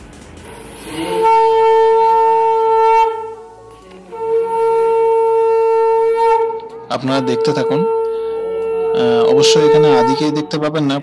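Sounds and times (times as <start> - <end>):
conch shell blasts: 0.5 - 11.0.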